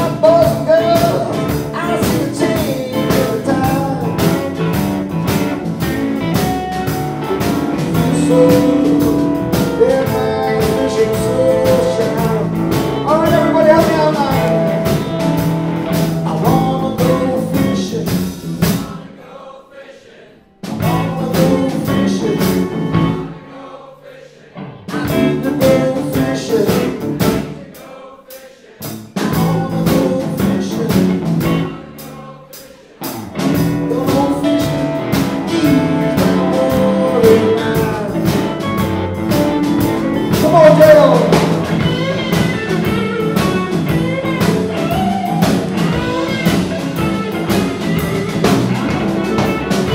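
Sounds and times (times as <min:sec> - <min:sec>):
electric blues band playing: 0:00.0 - 0:19.0, 0:20.6 - 0:23.5, 0:24.6 - 0:27.7, 0:28.8 - 0:49.9.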